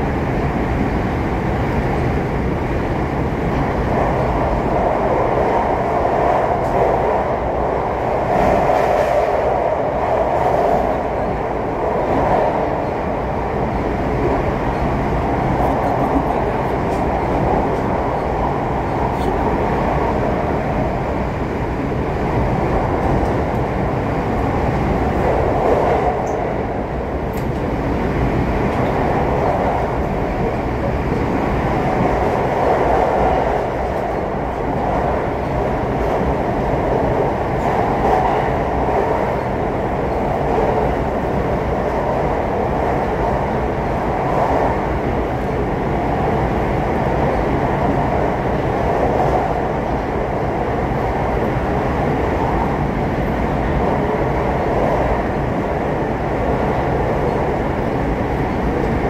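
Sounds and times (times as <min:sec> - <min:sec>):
train wheels rumbling in tunnel: 0:00.0 - 0:59.0.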